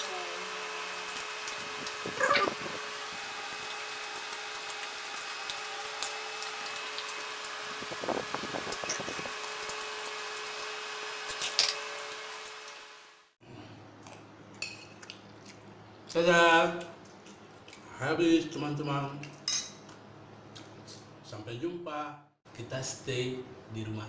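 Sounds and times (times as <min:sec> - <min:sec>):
steady mechanical hum: 0:00.0 - 0:21.9.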